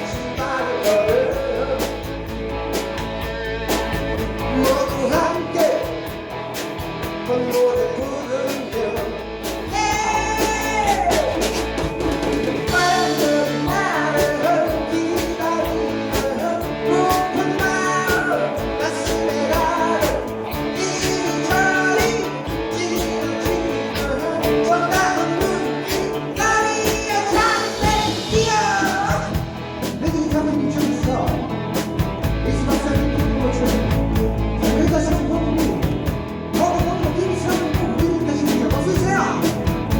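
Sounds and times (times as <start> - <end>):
person singing lead vocals: 0.0 - 2.4, 4.2 - 6.3, 7.1 - 12.0, 12.6 - 39.9
bass guitar: 0.0 - 39.9
drums: 0.0 - 39.9
electric guitars: 0.0 - 39.9.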